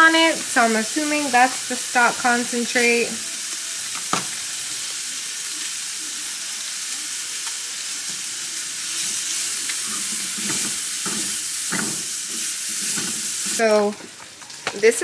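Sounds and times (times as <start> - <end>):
chicken sizzling in skillet: 0.0 - 15.0.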